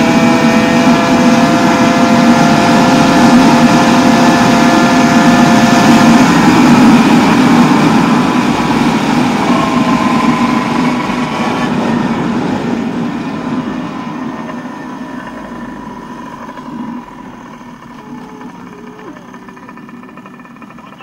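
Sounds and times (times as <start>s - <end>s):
two-stroke scooter engine revving: 0.0s - 21.0s.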